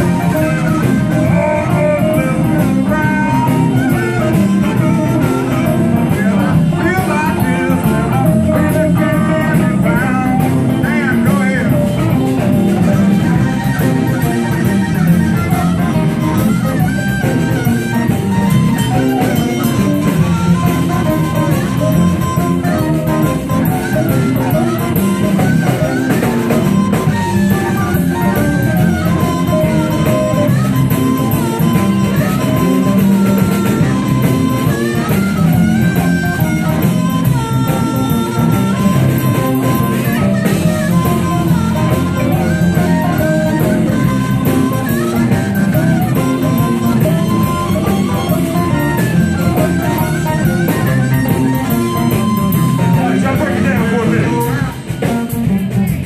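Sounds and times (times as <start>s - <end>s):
drum kit: 0.0s - 56.0s
electric guitars: 0.0s - 56.0s
harmonica: 0.0s - 56.0s.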